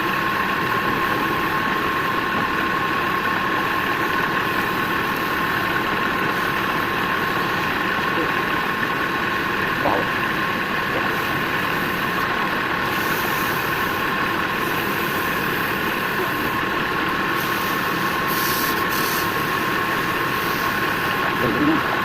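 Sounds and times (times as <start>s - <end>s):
woodturning lathe motor whine: 0.0s - 22.0s.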